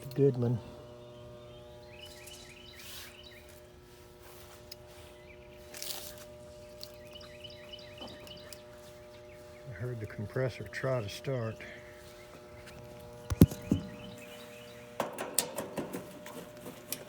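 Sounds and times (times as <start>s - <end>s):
birds chirping: 0.0s - 4.0s, 4.7s - 15.1s
compressor buzzing: 0.0s - 17.0s.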